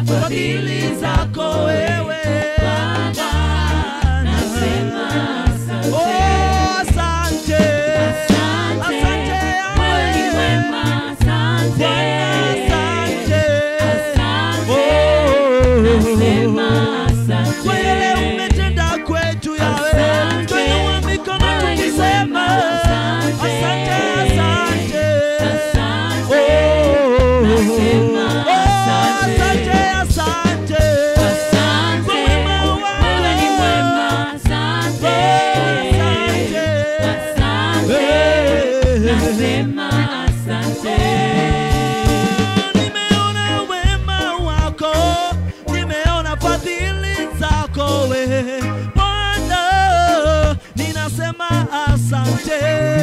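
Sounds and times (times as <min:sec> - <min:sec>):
singers singing: 0:00.0 - 0:43.7
electric bass guitar: 0:00.0 - 0:53.0
keyboard: 0:00.0 - 0:53.0
reggae band playing: 0:00.0 - 0:53.0
drums: 0:02.2 - 0:53.0.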